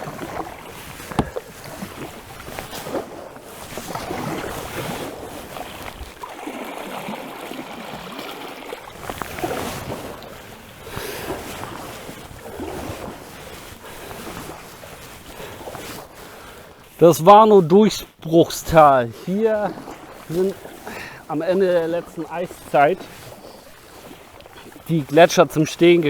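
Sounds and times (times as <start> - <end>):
water washing: 0.0 - 15.1, 17.0 - 26.0
paddle splashing in water: 0.0 - 26.0.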